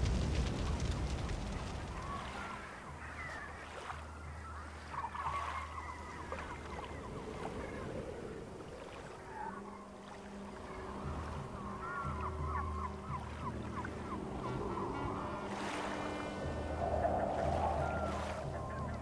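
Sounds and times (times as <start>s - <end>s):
seabirds calling: 1.1s - 19.0s.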